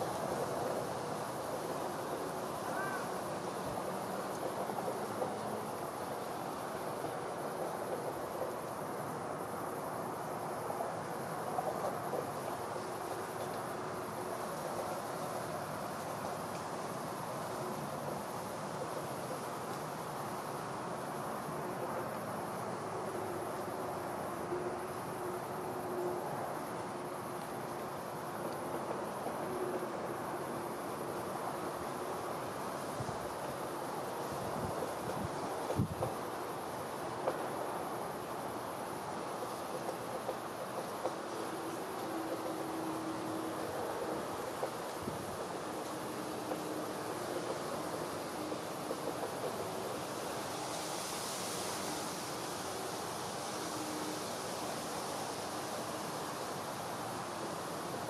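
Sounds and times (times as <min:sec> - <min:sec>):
crickets trilling: 0:00.0 - 0:58.0
river water rushing: 0:00.0 - 0:58.0.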